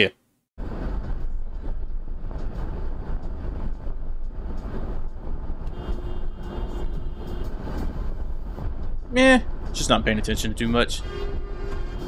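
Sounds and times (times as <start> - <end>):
road and wind noise in car: 0.6 - 12.0.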